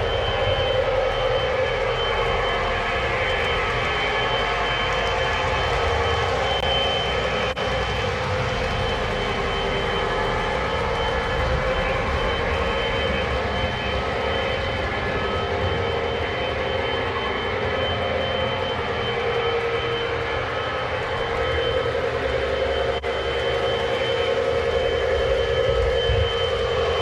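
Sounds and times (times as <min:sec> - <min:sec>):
model train motors droning: 0:00.0 - 0:27.0
thin steady whine: 0:00.0 - 0:27.0.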